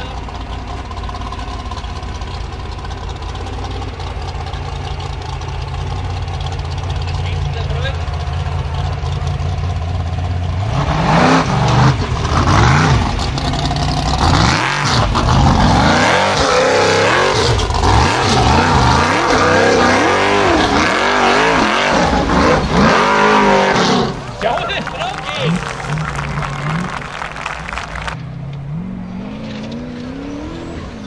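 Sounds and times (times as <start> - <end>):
buggy engine revving hard: 0.0 - 31.0.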